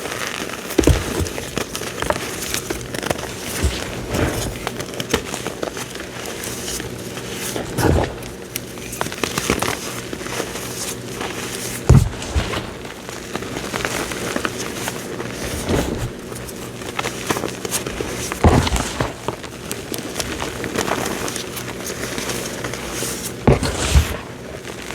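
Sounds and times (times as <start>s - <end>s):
cornstarch crunches: 0.0s - 24.9s
cornstarch squeaky crackles: 0.0s - 24.9s.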